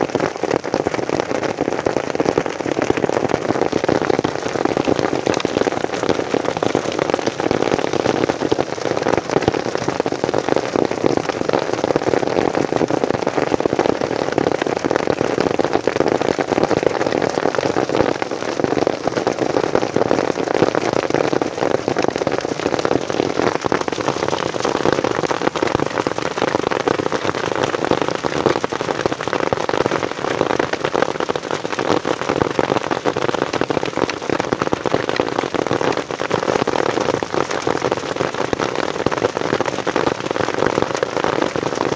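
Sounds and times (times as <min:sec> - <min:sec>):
rain and hail on umbrella: 0:00.0 - 0:41.9.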